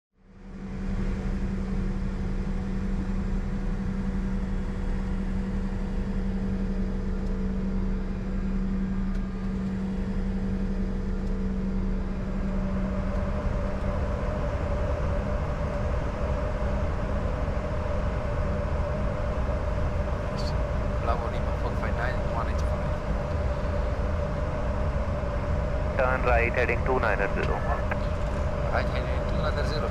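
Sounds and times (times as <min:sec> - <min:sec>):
low aircraft hum: 0:00.2 - 0:29.9.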